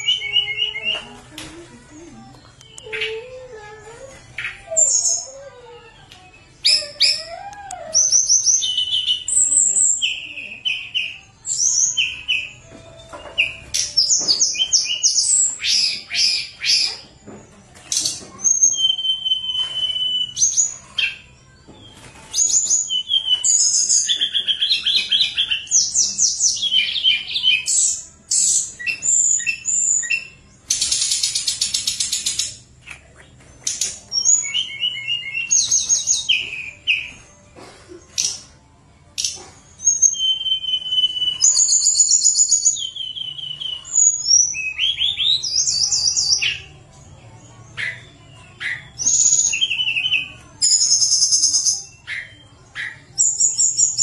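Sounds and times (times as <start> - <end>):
songbird singing: 0.0 - 37.4, 38.1 - 54.0.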